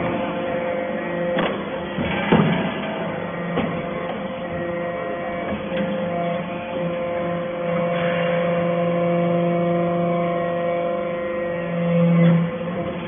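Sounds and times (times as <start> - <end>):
hydraulic press hum: 0.0 - 13.0.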